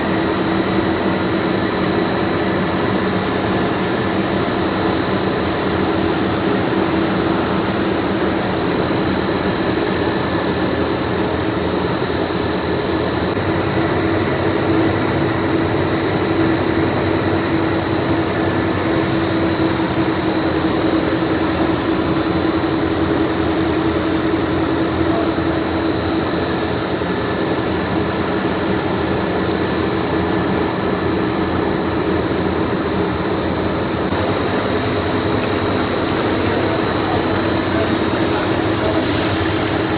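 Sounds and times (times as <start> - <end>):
factory machinery drone: 0.0 - 39.9.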